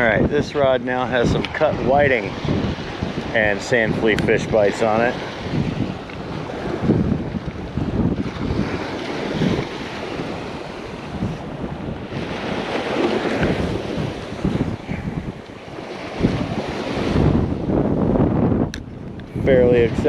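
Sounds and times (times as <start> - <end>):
surf on beach: 0.0 - 20.0
wind buffeting microphone: 0.0 - 20.0.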